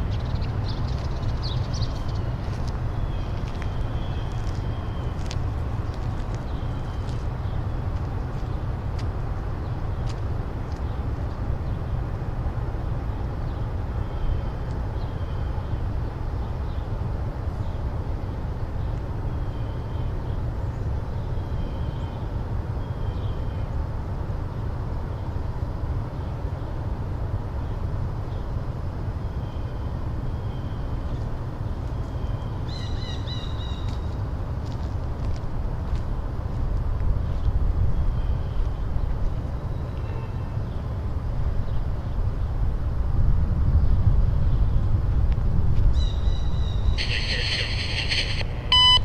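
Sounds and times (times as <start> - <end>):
steady low rumble: 0.0 - 21.3, 31.0 - 49.0.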